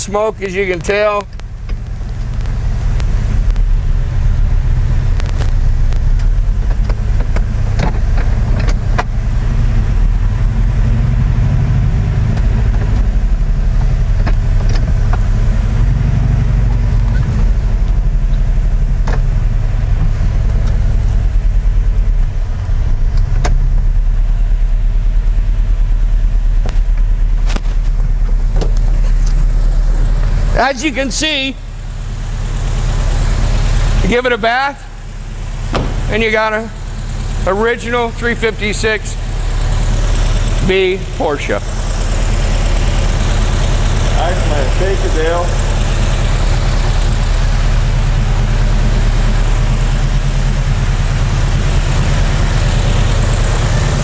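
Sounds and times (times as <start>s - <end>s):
car engine rumbling: 0.0s - 54.0s.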